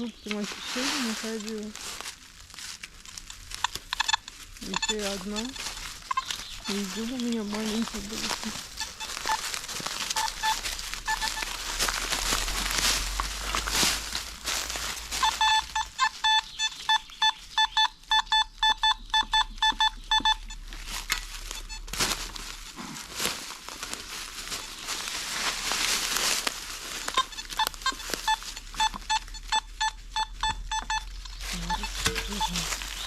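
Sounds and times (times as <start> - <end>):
rustling: 0.0 - 33.0
metal detector beeping: 0.1 - 1.8, 3.0 - 22.8, 25.6 - 33.0.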